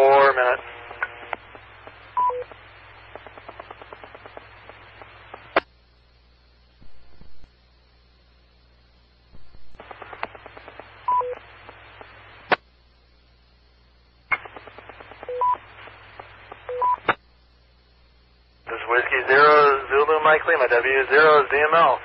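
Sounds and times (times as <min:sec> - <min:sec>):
radio hiss: 0:00.0 - 0:22.0.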